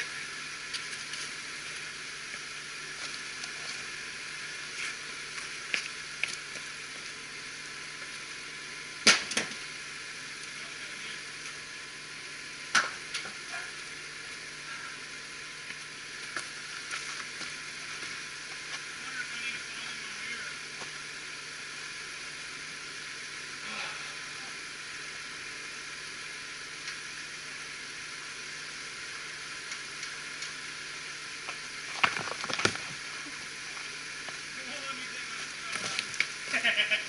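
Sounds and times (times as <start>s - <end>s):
steady hissing noise: 0.0s - 37.0s.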